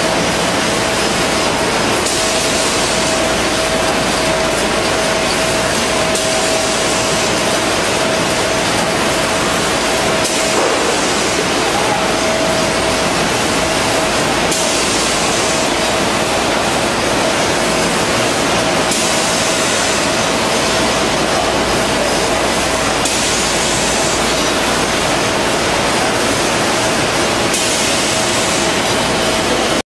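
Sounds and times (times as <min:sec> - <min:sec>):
packing machine running: 0:00.0 - 0:29.8.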